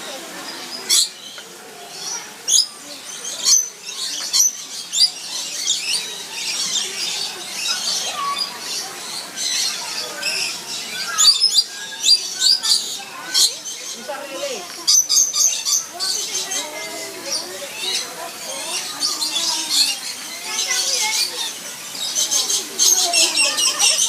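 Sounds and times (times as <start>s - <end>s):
birds chirping and squawking: 0.1s - 24.0s.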